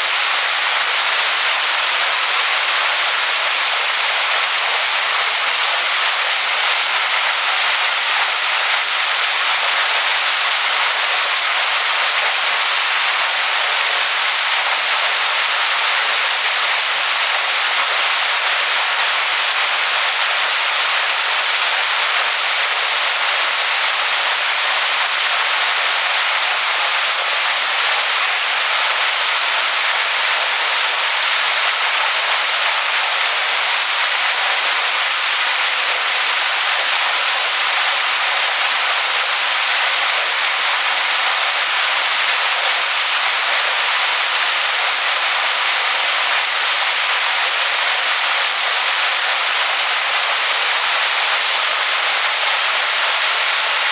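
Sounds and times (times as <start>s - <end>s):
waterfall splashing onto rocks: 0.0s - 53.9s.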